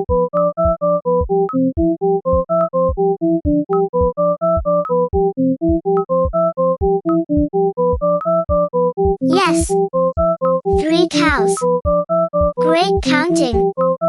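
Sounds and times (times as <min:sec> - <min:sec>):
synthesizer keyboard melody: 0:00.0 - 0:14.0.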